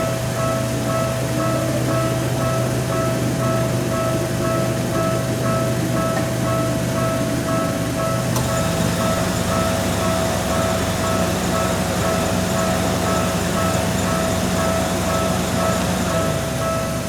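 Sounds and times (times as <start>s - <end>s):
level crossing warning bell: 0.0s - 17.0s
train running past: 0.0s - 17.0s.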